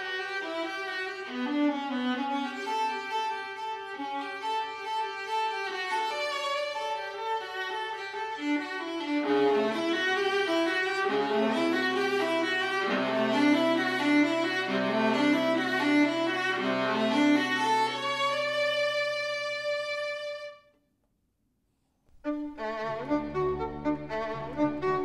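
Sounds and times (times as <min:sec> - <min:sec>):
violin melody: 0:00.0 - 0:20.7, 0:22.1 - 0:25.0.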